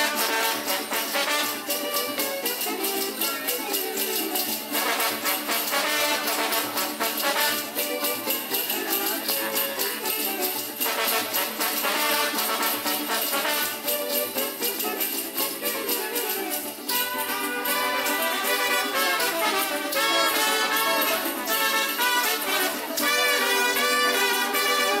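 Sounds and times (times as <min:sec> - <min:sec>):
brass band playing dance music: 0:00.0 - 0:03.7, 0:04.4 - 0:15.0, 0:16.6 - 0:25.0
leg bells jingling: 0:00.0 - 0:25.0.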